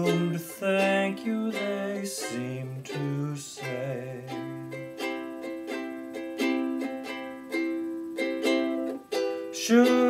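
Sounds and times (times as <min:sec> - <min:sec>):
ukulele strumming chords: 0:00.0 - 0:10.0.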